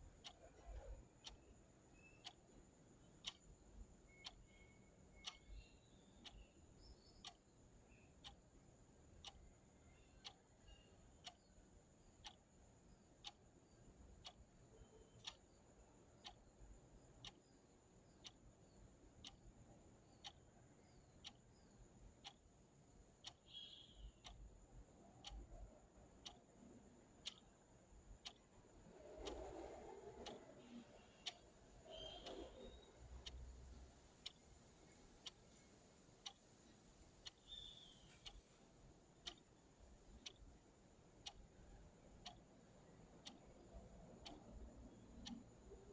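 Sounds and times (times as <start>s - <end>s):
clock ticking: 0.0s - 45.9s.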